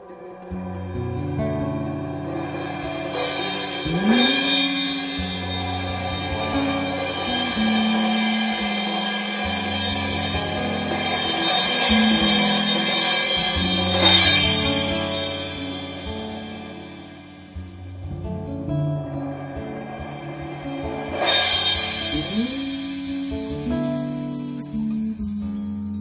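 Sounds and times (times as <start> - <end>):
loud cymbal crash: 0.0 - 18.0, 19.2 - 25.1
cymbal played with sticks: 0.0 - 26.0
electric guitar: 0.0 - 26.0
nylon-string guitar: 0.0 - 26.0.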